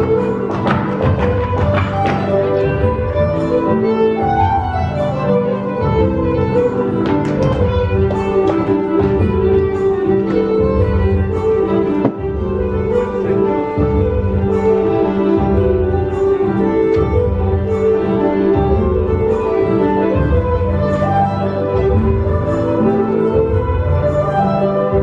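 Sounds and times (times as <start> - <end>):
fiddle-led dance music: 0.0 - 25.0.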